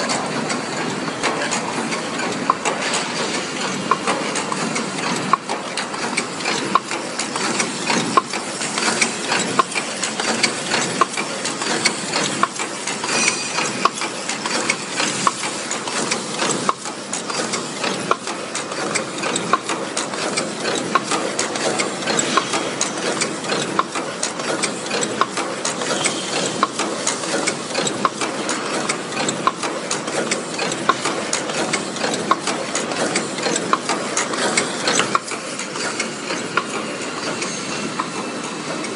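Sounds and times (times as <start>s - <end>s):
machine rapid clattering: 0.0s - 38.9s.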